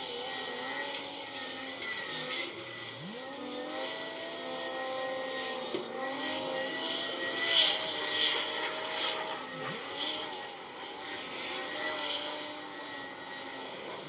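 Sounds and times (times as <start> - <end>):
engine revving up: 0.0 - 14.0.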